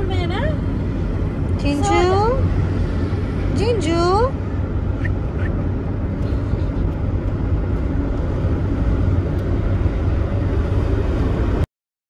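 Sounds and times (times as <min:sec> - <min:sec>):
wind rushing through car window: 0:00.0 - 0:11.6
car road noise: 0:00.0 - 0:11.7.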